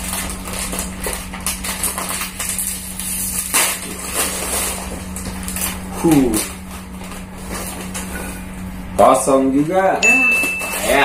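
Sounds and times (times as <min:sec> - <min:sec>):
plastic packets crackling: 0:00.0 - 0:08.7, 0:10.2 - 0:11.0
steady low hum: 0:00.0 - 0:11.0.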